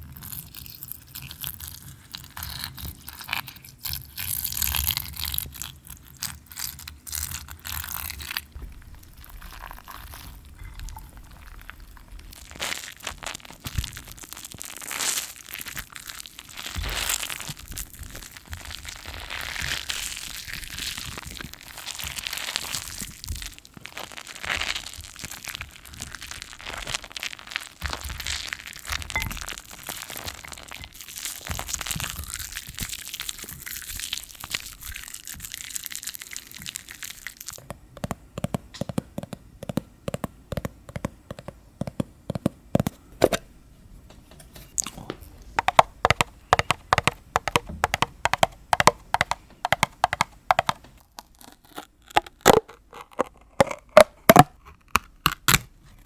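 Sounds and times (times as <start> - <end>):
soap lather squishing: 0.0 - 37.6, 44.7 - 55.6.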